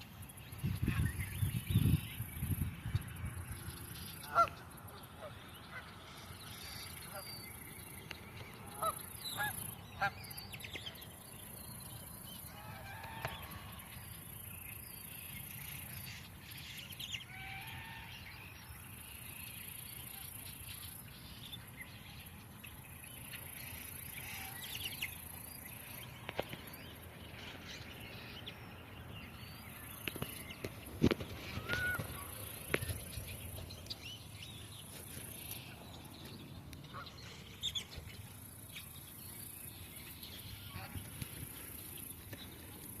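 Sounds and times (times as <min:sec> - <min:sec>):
birds calling: 0:00.0 - 0:18.1, 0:18.8 - 0:43.0.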